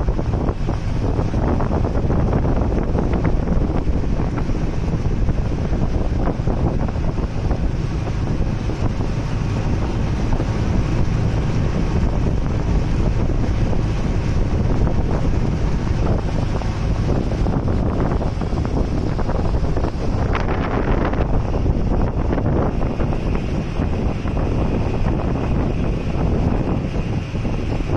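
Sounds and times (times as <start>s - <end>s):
boat engine drone: 0.0s - 27.9s
water rushing past hull: 0.0s - 27.9s
wind buffeting microphone: 0.0s - 27.9s.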